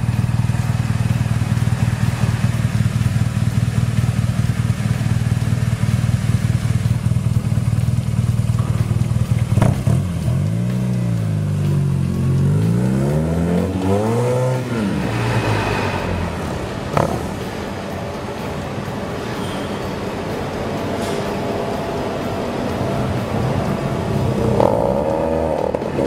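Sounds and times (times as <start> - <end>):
motorcycle engine: 0.0 - 26.0.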